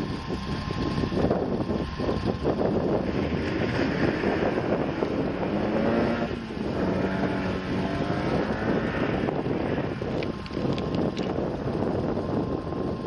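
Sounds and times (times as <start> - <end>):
car engine accelerating hard: 0.0 - 12.9
wind noise on microphone: 0.0 - 13.0.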